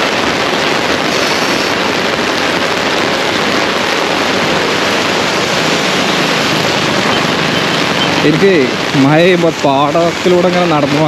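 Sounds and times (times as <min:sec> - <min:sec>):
heavy rain on umbrella: 0:00.0 - 0:11.0
rain on wet road: 0:00.0 - 0:11.0.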